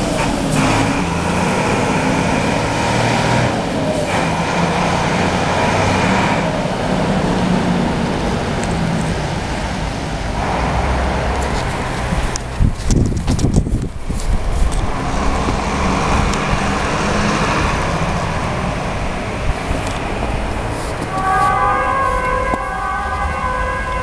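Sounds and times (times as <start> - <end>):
car passing by: 0.0 - 12.7, 14.2 - 24.0
fire engine diesel engine: 0.0 - 24.0.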